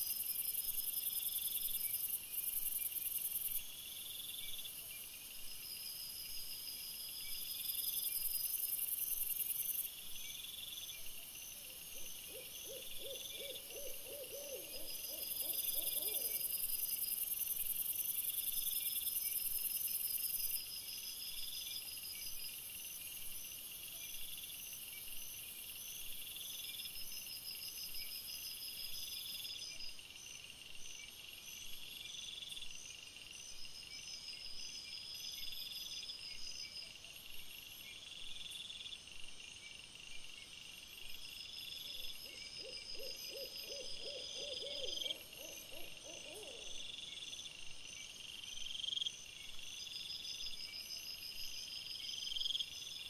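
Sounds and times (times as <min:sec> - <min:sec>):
insects chirping: 0:00.0 - 0:53.0
low pulsing insect calls: 0:00.0 - 0:53.0.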